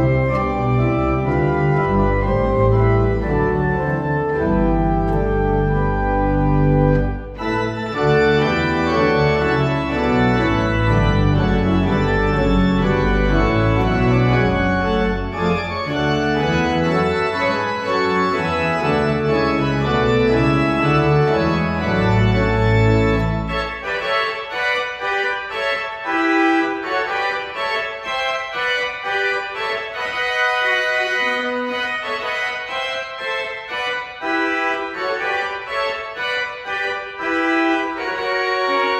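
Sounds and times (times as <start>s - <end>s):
church organ playing chords: 0.0s - 38.9s.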